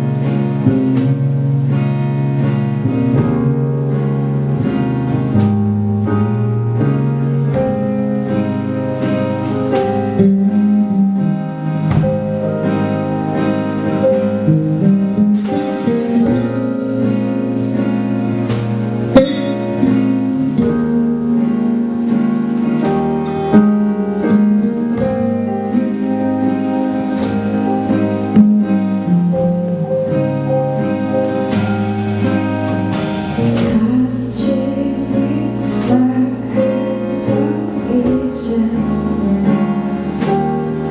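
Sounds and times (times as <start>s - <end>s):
live indie pop band: 0.0s - 40.9s.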